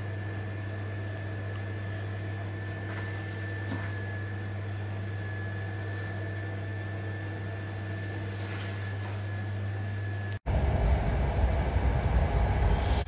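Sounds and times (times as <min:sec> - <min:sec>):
thin high whine: 0:00.0 - 0:13.0
train coach low hum: 0:02.3 - 0:13.0.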